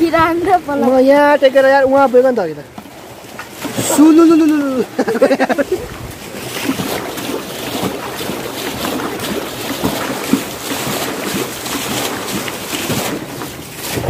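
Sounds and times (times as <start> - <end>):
small water splashes: 0.0 - 14.0
stream water running over rocks: 0.0 - 14.0.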